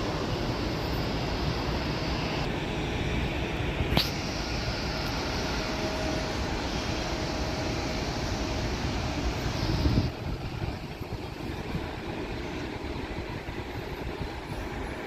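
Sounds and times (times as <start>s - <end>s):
jet engine rushing with whine: 0.0s - 15.0s.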